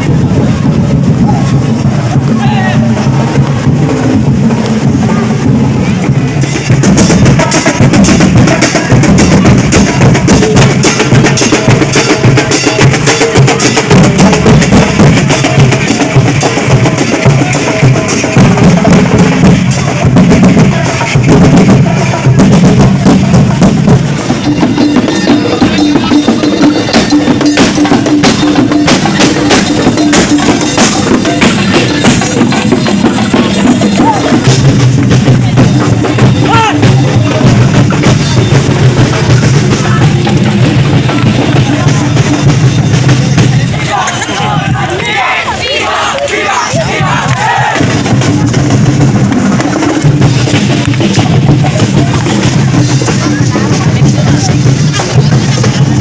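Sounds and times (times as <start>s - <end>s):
loud music with heavy drum beat: 0.0s - 56.0s.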